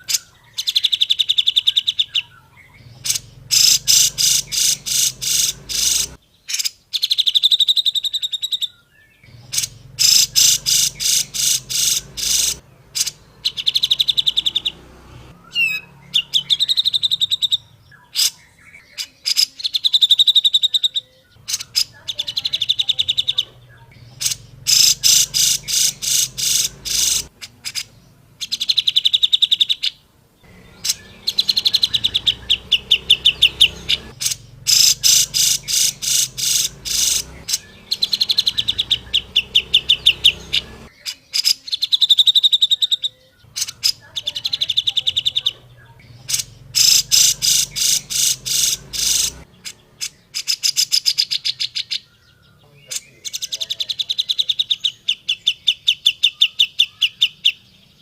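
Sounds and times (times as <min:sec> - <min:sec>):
bulbul singing sharp notes: 0:00.0 - 0:08.4, 0:09.2 - 0:52.2.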